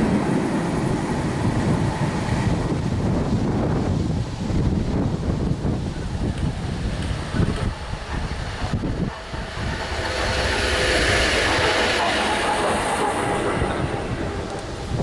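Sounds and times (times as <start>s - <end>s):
electric locomotive passing: 0.0s - 15.0s.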